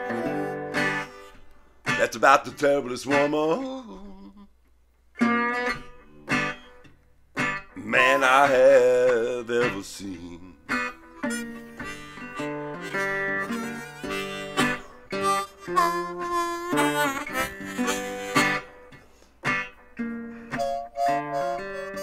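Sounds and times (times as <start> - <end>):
slide guitar: 0.0 - 4.5, 5.2 - 22.0.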